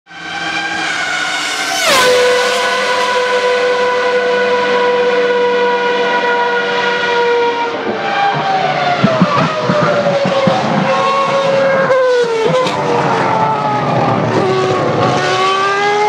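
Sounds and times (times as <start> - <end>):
high-revving racing car engine: 0.1 - 16.0.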